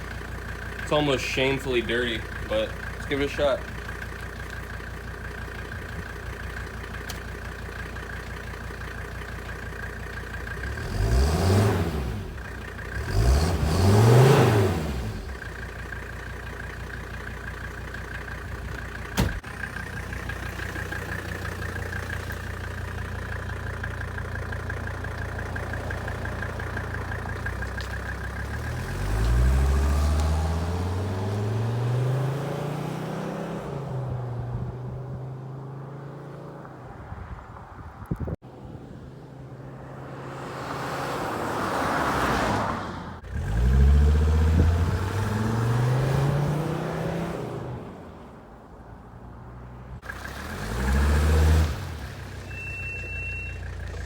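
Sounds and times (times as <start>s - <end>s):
car pulling away: 0.0s - 54.0s
diesel engine idling and revving: 0.0s - 54.0s.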